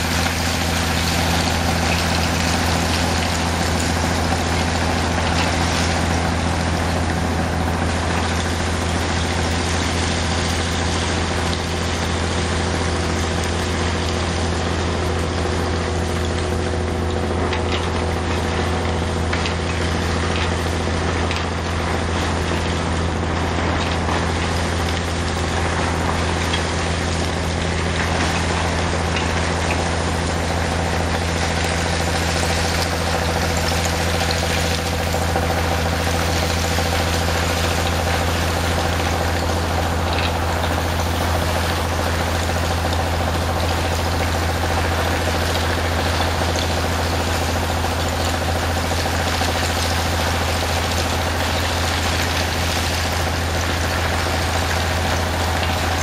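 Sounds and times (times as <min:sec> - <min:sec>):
high-pressure water jet splashing: 0:00.0 - 0:56.0
pump engine droning: 0:00.0 - 0:56.0.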